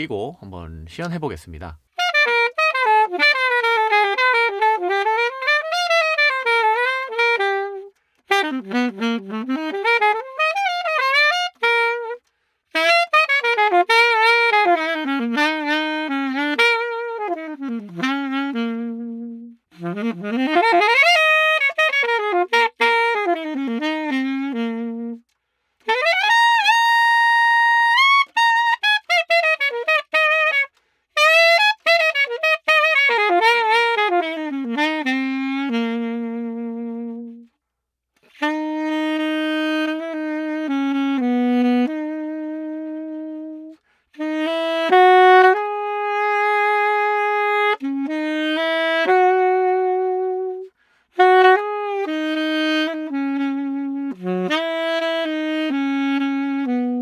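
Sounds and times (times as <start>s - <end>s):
solo saxophone: 0.0s - 57.0s.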